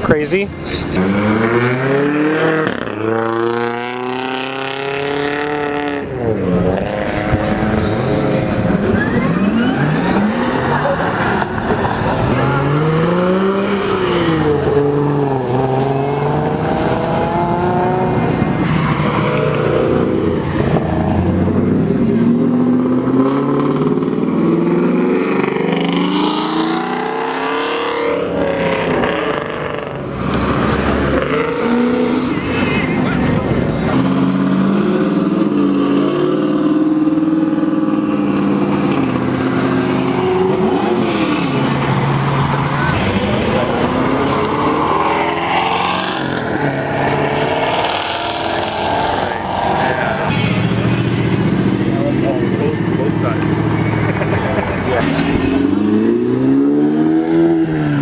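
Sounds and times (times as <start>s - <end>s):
cars accelerating past: 0.0s - 58.0s.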